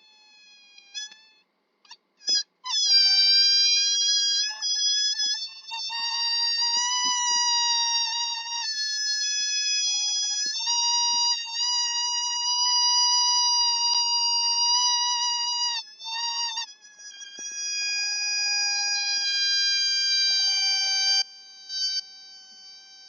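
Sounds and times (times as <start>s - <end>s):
balloon deflating squeal: 0.0s - 1.4s, 2.2s - 23.0s.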